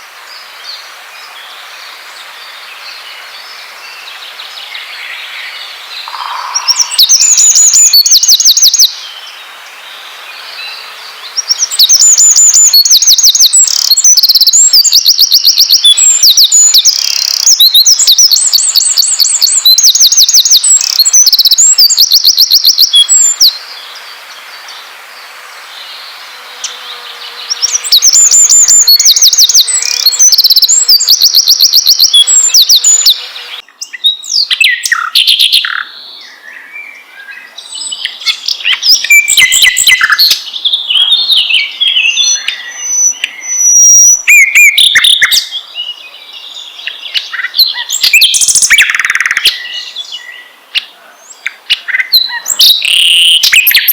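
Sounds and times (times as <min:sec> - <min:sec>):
birds twittering: 0:00.3 - 0:53.9
songbirds trilling: 0:00.3 - 0:53.9.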